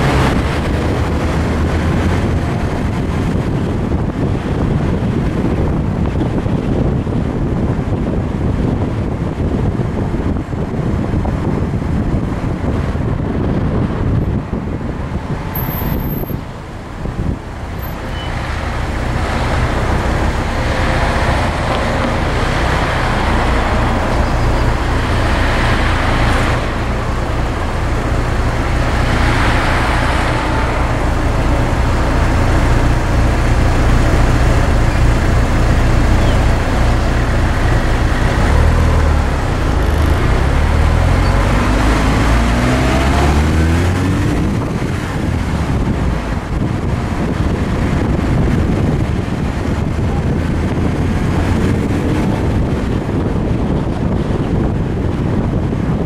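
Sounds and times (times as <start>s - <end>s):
car engine: 0.0s - 56.0s
road noise inside car: 0.0s - 56.0s.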